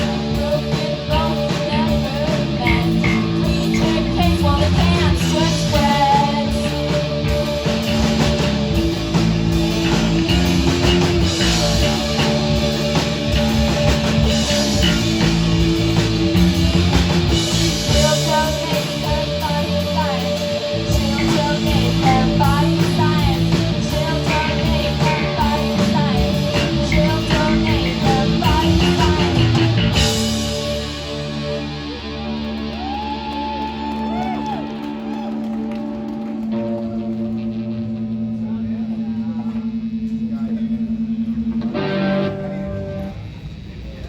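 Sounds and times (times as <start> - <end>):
electric guitar ringing: 0.0 - 44.0
rock band playing: 0.0 - 44.0.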